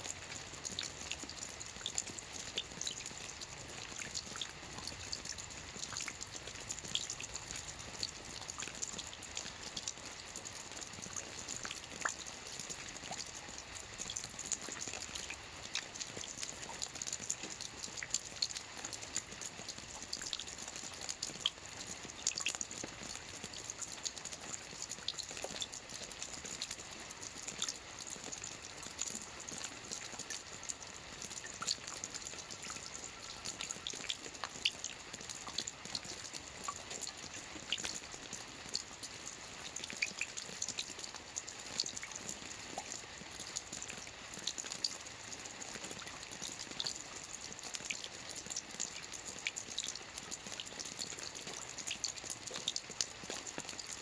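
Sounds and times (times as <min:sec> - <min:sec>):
drip ticks: 0:00.0 - 0:54.0
rain pattering on a roof: 0:00.0 - 0:54.0.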